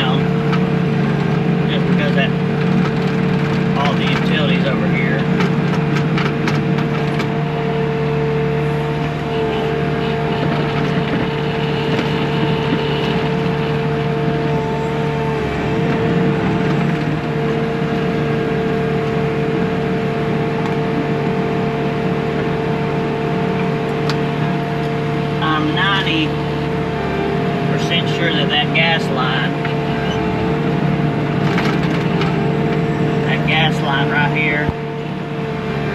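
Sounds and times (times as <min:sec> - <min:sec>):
diesel engine running: 0:00.0 - 0:35.9
held whine: 0:00.0 - 0:35.9.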